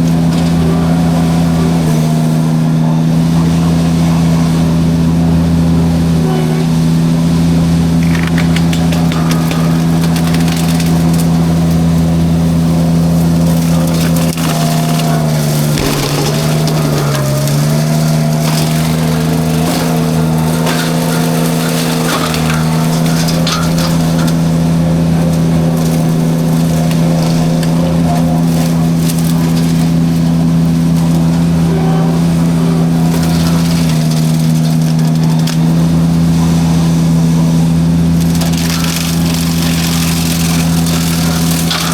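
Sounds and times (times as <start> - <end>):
engine running hard: 0.0 - 41.9
mulcher shredding brush: 0.0 - 41.9
wood crackling and splintering: 7.3 - 41.9.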